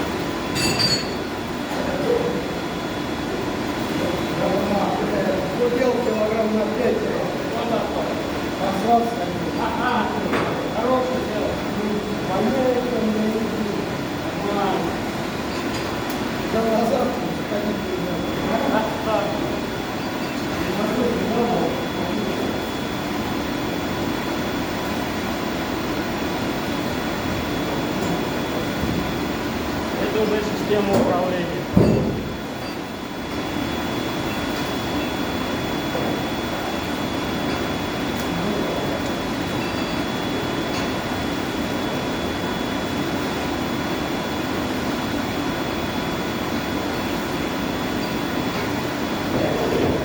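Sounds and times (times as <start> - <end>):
boiler-house machinery roar: 0.0 - 50.0.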